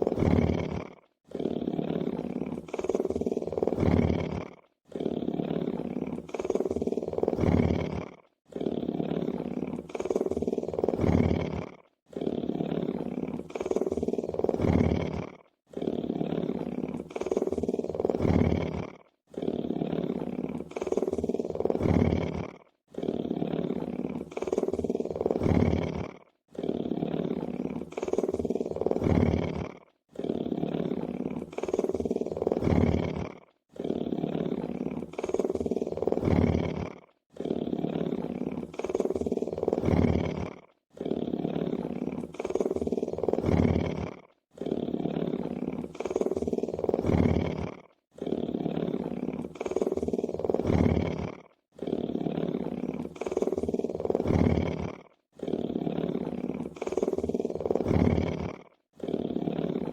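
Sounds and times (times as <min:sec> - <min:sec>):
lion purring: 0:00.0 - 0:59.9.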